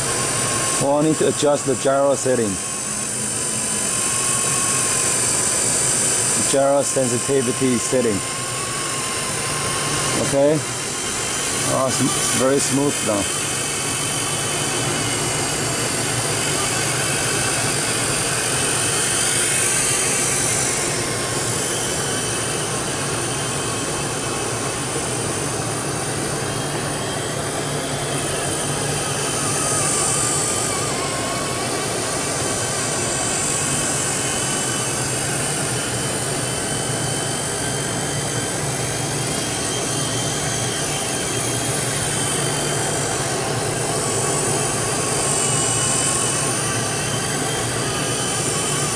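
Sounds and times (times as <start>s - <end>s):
rc helicopter motor whine: 0.0s - 48.9s.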